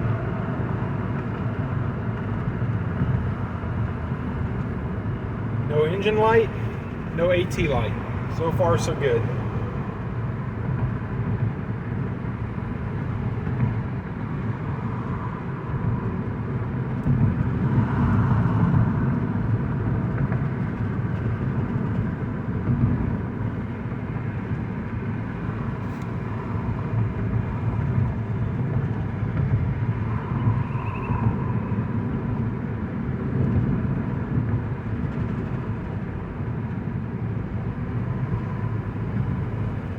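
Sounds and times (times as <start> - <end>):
car interior engine and road rumble: 0.0 - 39.9.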